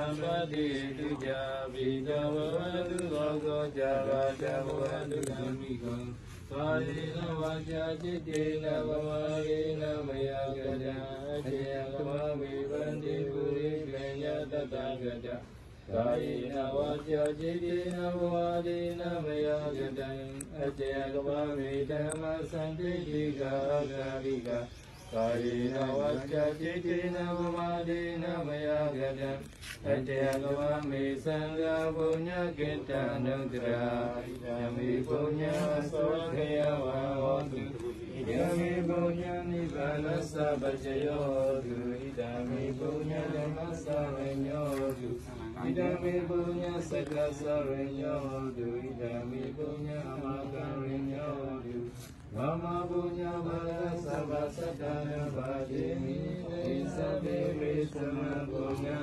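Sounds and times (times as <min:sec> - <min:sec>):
men chanting together: 0:00.0 - 0:59.0.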